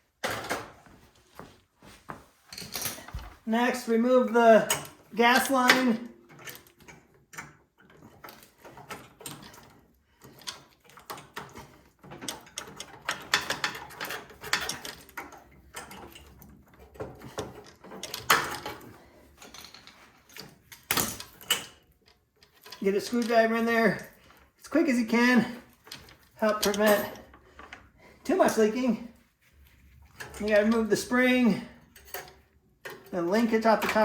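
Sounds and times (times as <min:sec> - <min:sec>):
hand tools clicking on metal parts: 0:04.5 - 0:25.0, 0:25.7 - 0:28.6, 0:30.1 - 0:34.0.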